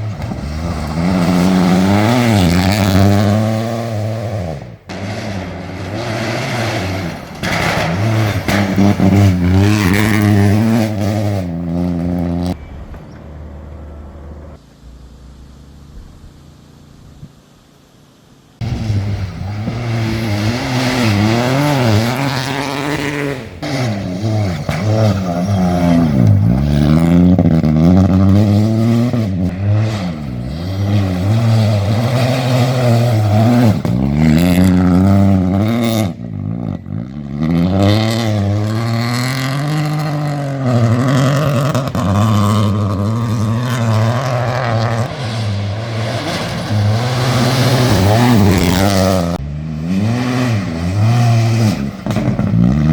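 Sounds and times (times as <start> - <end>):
car engine at full throttle: 0.0 - 17.9, 18.5 - 52.9.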